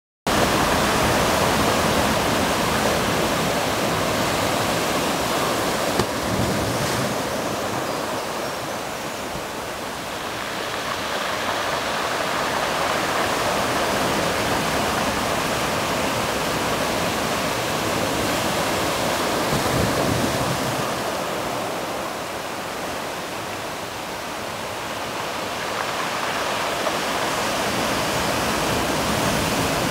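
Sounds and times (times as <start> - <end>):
sea surf washing on shore: 0.3 - 29.9.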